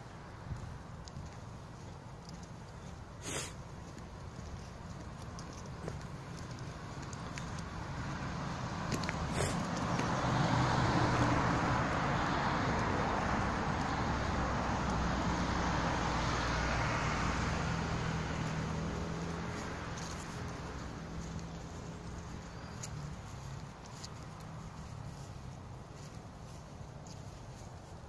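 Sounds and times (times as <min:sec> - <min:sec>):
passing motor vehicle rumble: 0:00.0 - 0:28.0.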